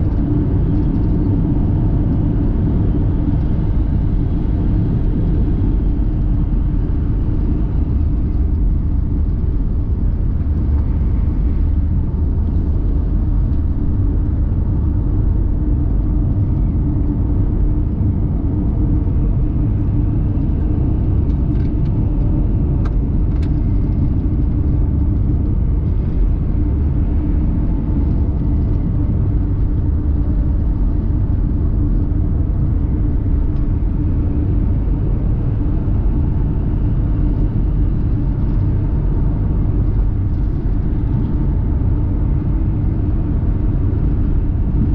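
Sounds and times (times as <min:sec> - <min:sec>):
road and engine rumble: 0:00.0 - 0:44.9
steady hum: 0:00.0 - 0:44.9.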